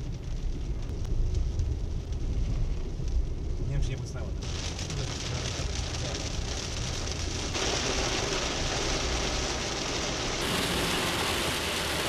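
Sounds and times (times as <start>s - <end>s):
rain on car windshield and roof: 0.0s - 12.0s.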